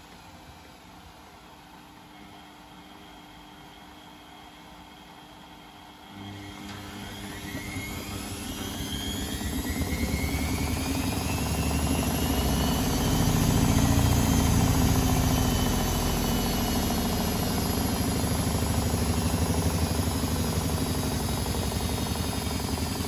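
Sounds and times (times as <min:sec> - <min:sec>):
washing machine motor whine: 0:00.0 - 0:23.0.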